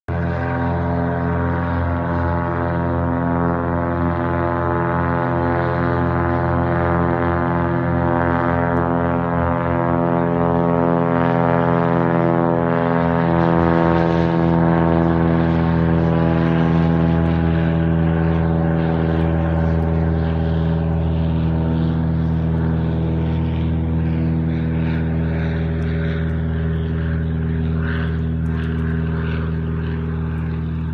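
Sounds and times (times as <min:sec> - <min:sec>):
propeller engine drone: 0:00.1 - 0:30.9.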